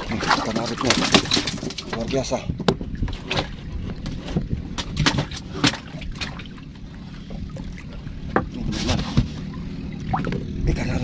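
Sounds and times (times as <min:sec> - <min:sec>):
water slapping against boat hull: 0:00.0 - 0:10.4.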